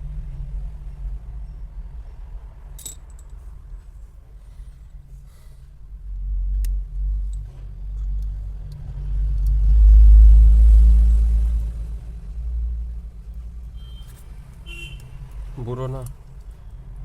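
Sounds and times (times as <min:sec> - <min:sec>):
road vehicle passing: 0:00.0 - 0:04.4, 0:06.0 - 0:17.0.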